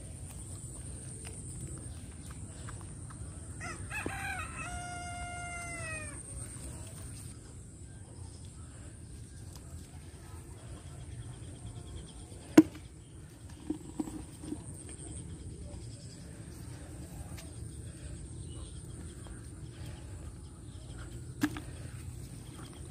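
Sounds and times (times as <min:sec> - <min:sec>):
insects trilling: 0:00.0 - 0:22.9.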